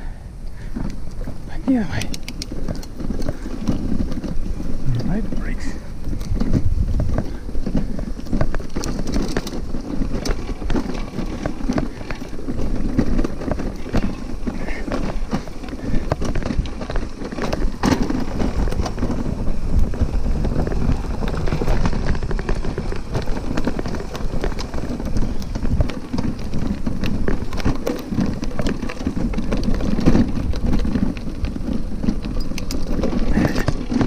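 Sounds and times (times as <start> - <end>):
bicycle rattling on dirt trail: 0.0 - 34.0.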